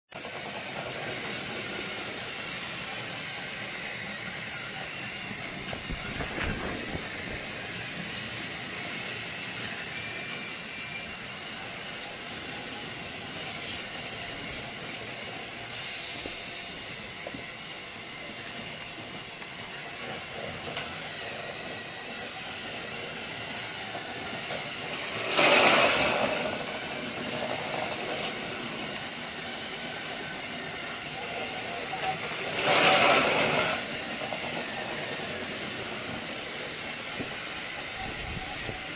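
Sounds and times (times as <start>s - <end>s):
train running: 0.1s - 38.9s
loud burst of noise: 0.4s - 38.9s.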